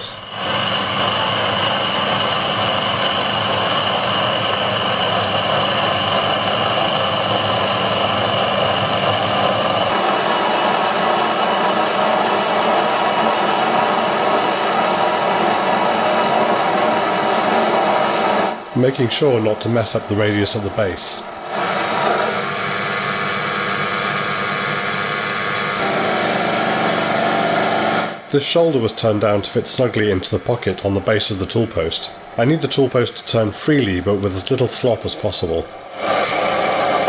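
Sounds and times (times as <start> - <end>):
lathe machine whine: 0.0 - 37.0.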